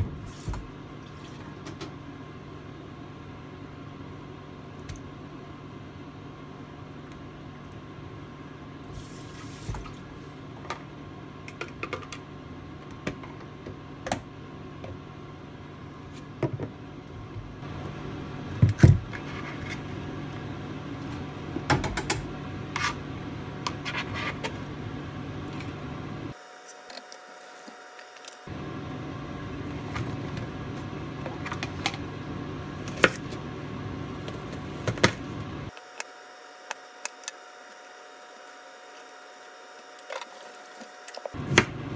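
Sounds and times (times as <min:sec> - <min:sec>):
low hum and hiss: 0:00.0 - 0:26.4, 0:27.6 - 0:35.8.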